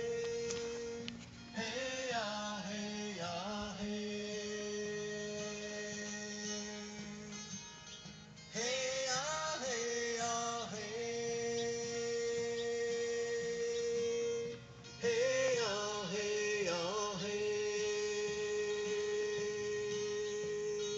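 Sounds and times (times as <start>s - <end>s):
guitar accompaniment: 0.0s - 20.9s.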